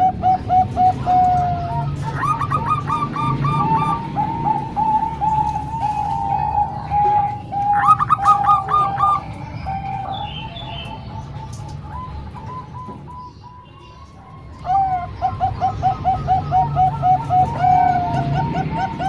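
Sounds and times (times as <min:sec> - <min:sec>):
doves cooing: 0:00.0 - 0:19.0
higher-pitched bird calling: 0:00.0 - 0:19.0.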